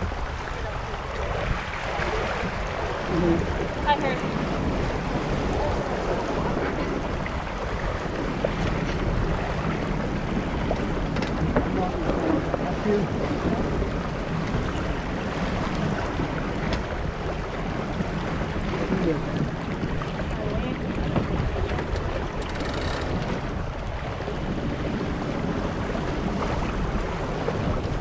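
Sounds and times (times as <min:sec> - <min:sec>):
water rushing along hull: 0:00.0 - 0:28.0
wind buffeting microphone: 0:00.0 - 0:28.0.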